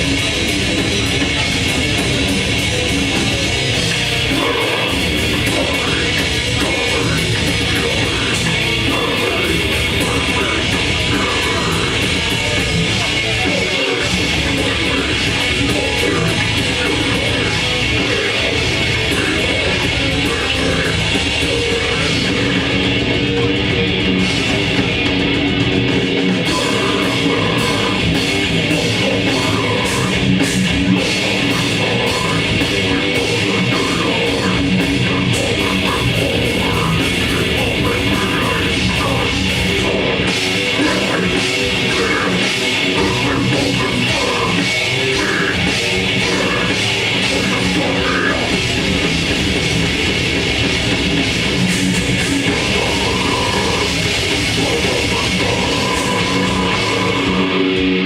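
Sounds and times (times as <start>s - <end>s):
loud distorted metal band: 0.0s - 58.0s.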